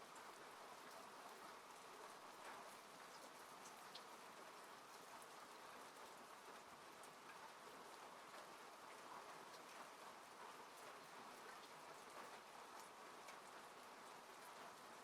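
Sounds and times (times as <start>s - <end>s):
rain falling on a car: 0.0s - 15.0s.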